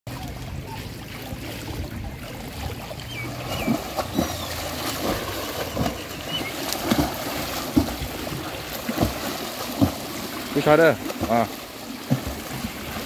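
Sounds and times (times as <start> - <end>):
swimmer splashing water: 0.1 - 13.0.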